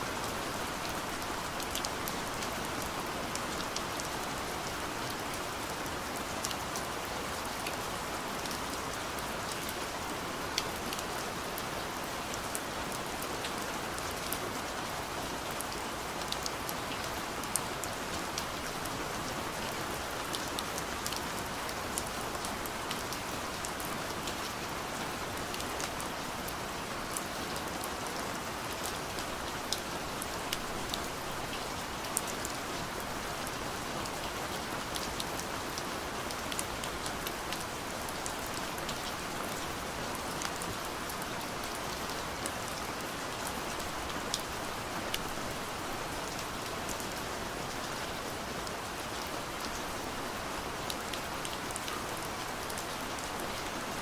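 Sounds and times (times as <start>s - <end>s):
soft rain on a window: 0.0s - 54.0s.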